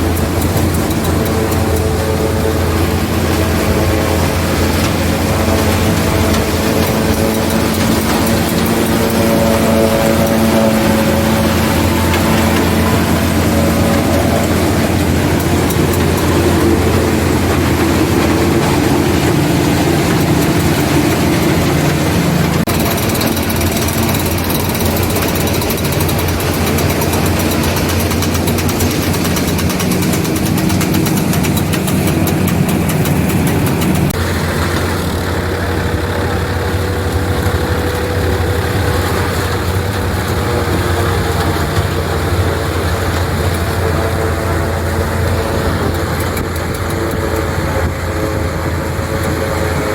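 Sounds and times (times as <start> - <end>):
engine drone: 0.0 - 49.9.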